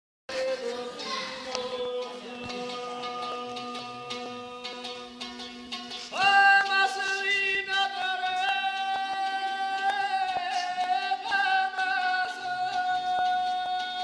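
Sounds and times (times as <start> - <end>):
strummed lute: 0.3 - 14.0.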